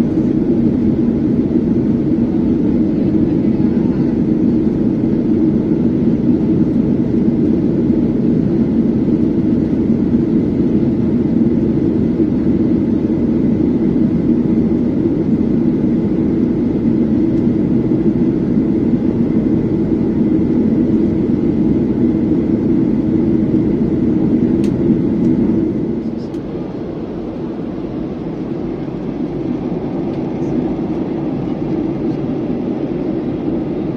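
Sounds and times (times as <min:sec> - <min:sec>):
airplane cabin engine drone: 0:00.0 - 0:33.9.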